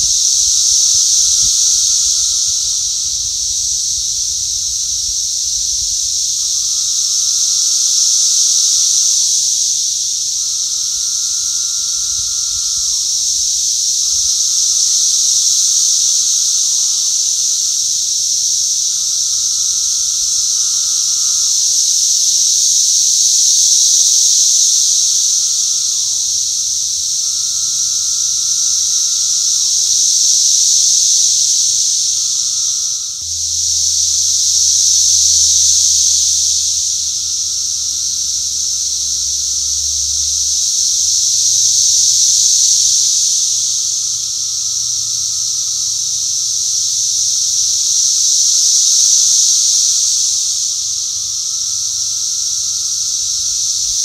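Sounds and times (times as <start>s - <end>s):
cicada chorus whine: 0.0s - 54.0s
nearby cicada calls: 0.0s - 54.0s.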